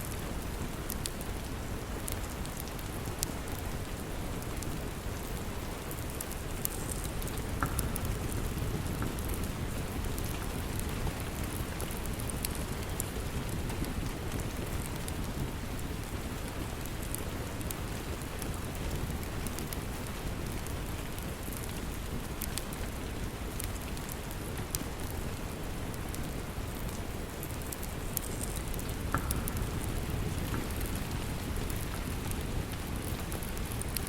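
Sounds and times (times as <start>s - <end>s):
steady rain: 0.0s - 34.0s
wood fire crackling: 0.0s - 34.0s.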